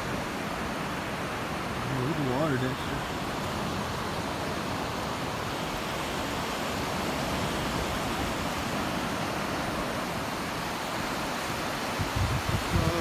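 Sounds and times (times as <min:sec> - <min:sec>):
ocean surf breaking: 0:00.0 - 0:13.0
wind: 0:00.0 - 0:13.0.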